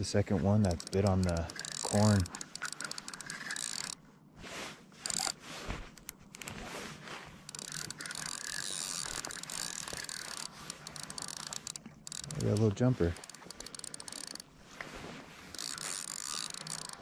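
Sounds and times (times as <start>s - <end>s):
fishing reel clicking whir: 0.4s - 4.0s, 5.0s - 6.6s, 7.4s - 14.5s, 15.5s - 17.0s.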